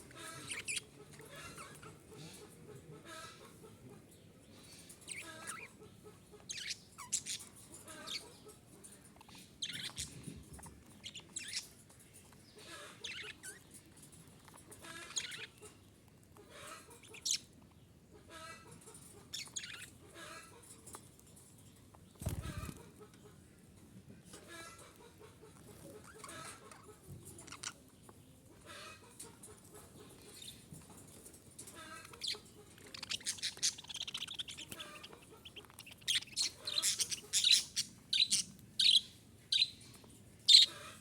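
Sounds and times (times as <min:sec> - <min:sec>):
budgerigars chirping and warbling: 0:00.0 - 0:23.2, 0:24.3 - 0:41.0.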